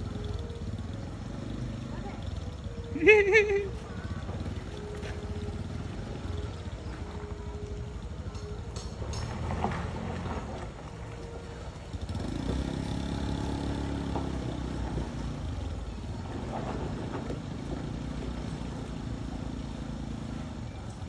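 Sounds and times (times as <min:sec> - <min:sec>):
minibus engine droning under load: 0:00.0 - 0:21.0.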